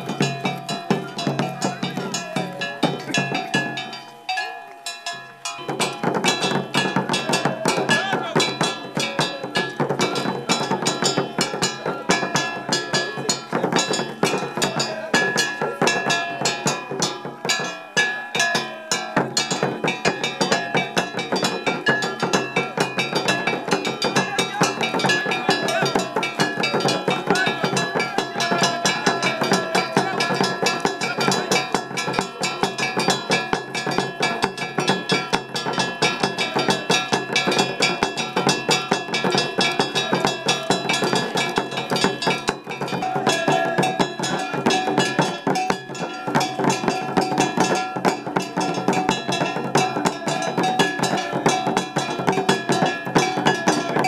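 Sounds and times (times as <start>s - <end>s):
fast dense drumming: 0.0s - 4.0s, 5.0s - 54.0s
clattering percussion: 0.0s - 54.0s.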